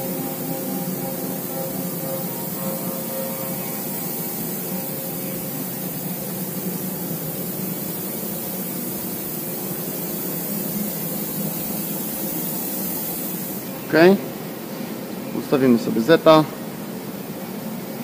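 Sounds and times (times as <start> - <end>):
milling machine idling hiss and hum: 0.0 - 18.0.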